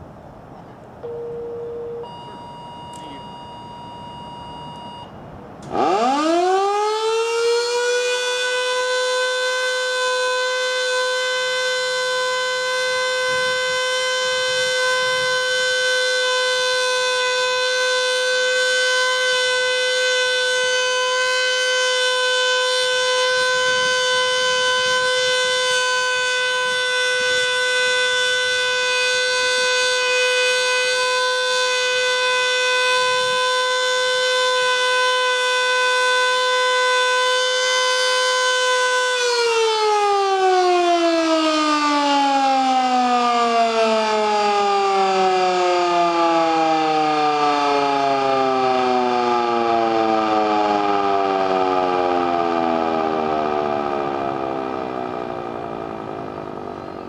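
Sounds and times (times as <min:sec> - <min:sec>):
warning siren winding up: 0:02.0 - 0:57.0.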